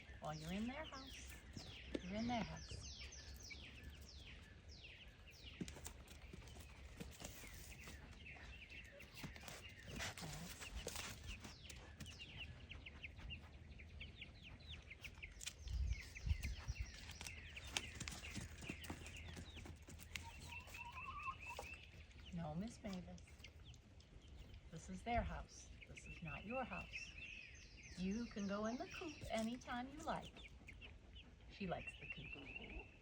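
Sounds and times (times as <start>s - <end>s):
baby chicks peeping: 0.0s - 33.0s.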